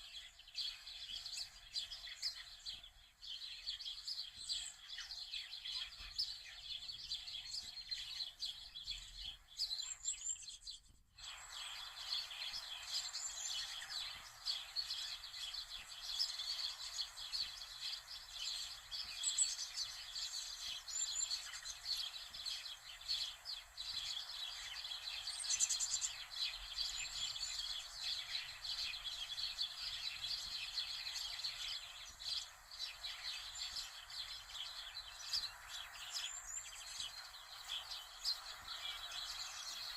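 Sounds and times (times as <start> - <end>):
small birds chirping: 0.0 - 39.9
background hiss: 6.4 - 39.9.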